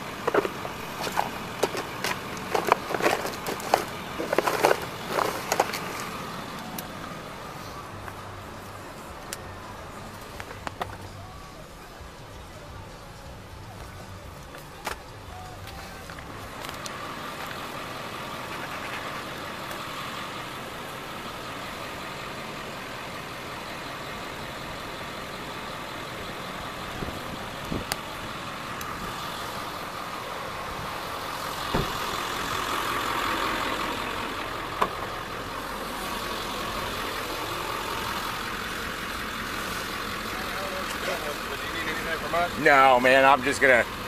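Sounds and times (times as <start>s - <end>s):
vehicle engine idling: 0.0s - 44.0s.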